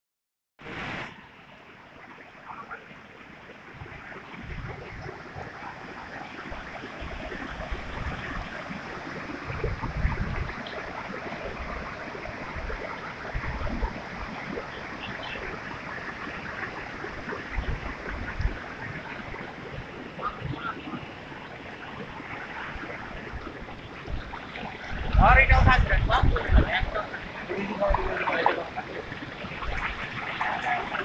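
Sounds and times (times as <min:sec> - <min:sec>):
floodwater rushing: 0:00.6 - 0:31.0.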